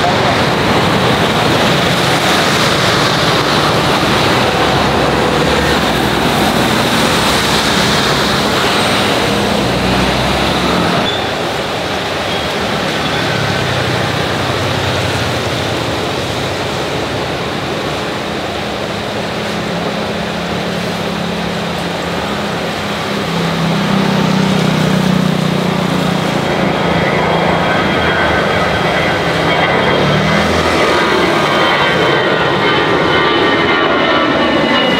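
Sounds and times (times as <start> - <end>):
jet engines rushing and droning: 0.0 - 34.9.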